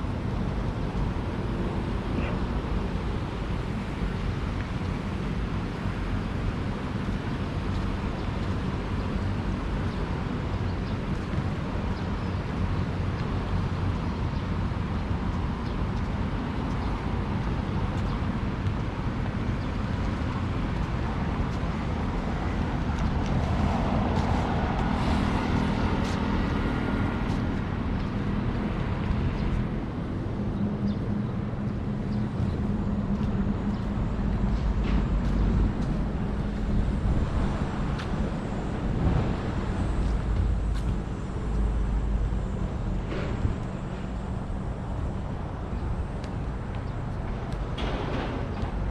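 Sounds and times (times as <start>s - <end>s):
rumble of passing traffic: 0.0s - 48.9s.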